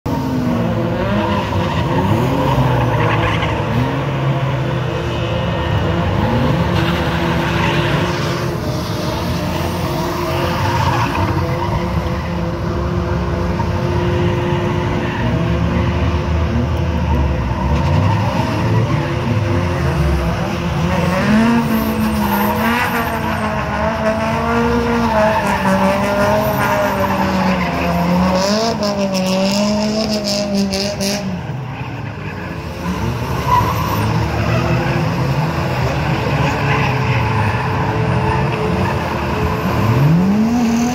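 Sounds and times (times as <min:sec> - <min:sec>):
car engines revving: 0:00.0 - 0:40.9
tyres squealing and skidding: 0:00.1 - 0:40.9.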